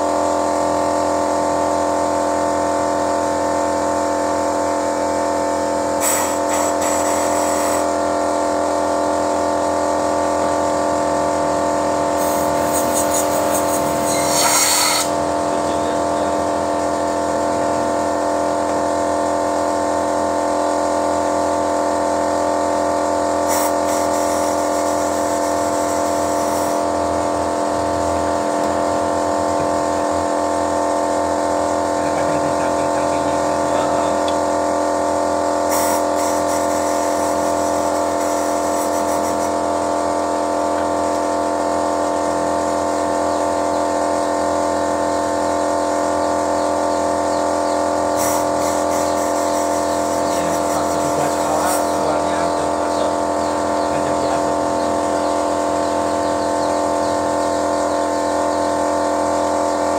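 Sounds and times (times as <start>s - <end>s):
car engine running: 0.0s - 14.4s, 15.0s - 59.9s.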